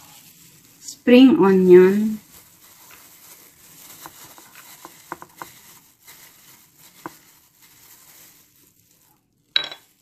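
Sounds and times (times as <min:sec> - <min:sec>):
vegetables rustling in a bowl: 0:00.0 - 0:10.0.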